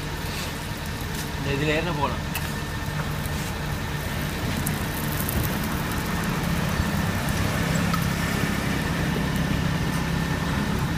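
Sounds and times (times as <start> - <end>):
low engine hum: 0.0 - 10.9.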